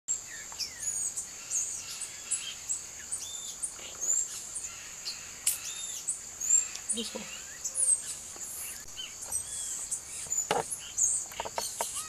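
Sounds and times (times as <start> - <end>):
birds chirping and whistling: 0.1 - 12.0.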